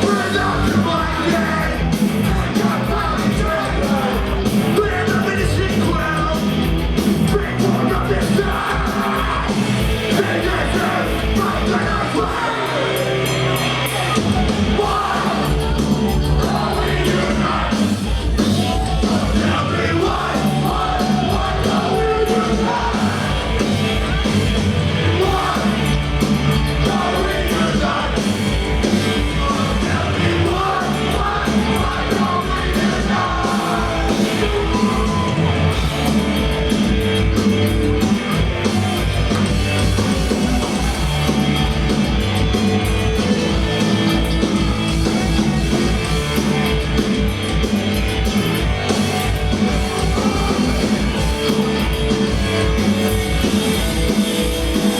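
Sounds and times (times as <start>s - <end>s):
punk rock band playing: 0.0s - 54.9s.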